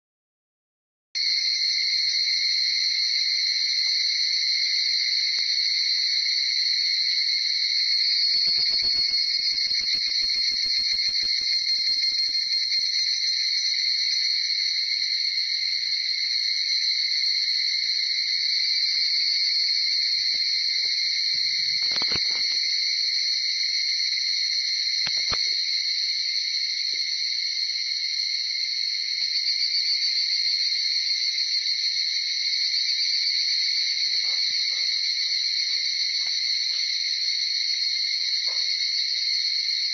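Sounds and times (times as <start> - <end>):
chorus of cicadas: 1.2 - 39.9.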